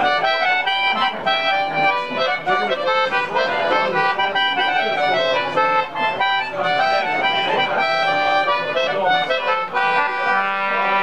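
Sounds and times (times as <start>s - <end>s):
concertina playing a tune: 0.0s - 11.0s.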